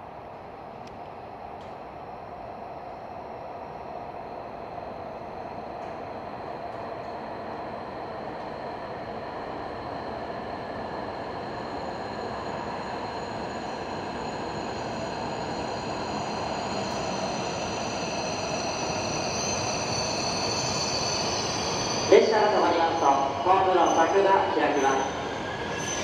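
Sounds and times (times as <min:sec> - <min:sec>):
high whine of train: 0:00.0 - 0:26.0
train pulling in and braking: 0:00.0 - 0:26.0.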